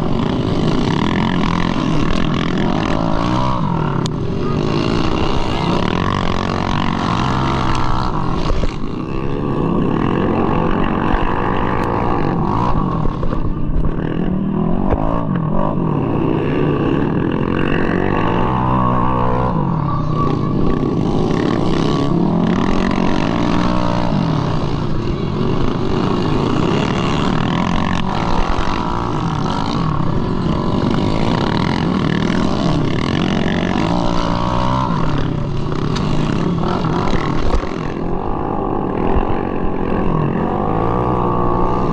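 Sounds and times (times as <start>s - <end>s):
scooter engine revving: 0.0s - 41.9s.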